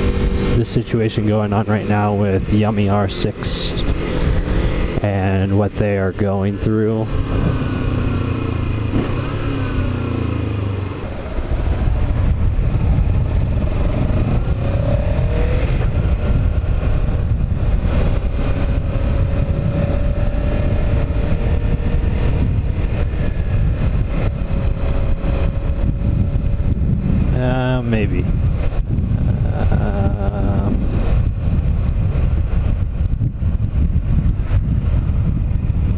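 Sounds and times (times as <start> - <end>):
motorcycle engine: 0.0 - 35.9
wind rumble on microphone: 0.0 - 35.9.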